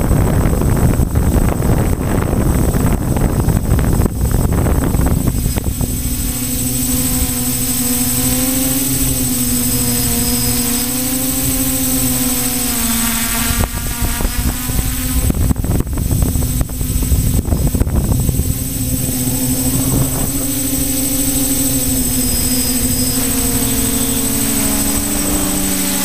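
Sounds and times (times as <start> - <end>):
loud rushing noise: 0.0 - 26.0
quadcopter motors humming: 0.0 - 26.0.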